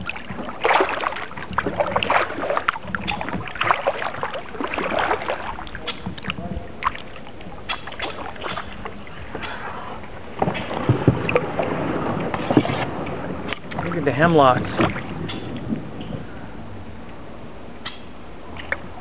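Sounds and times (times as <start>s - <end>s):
water dripping: 0.0s - 16.2s
kayak paddle splashing water: 0.0s - 19.0s.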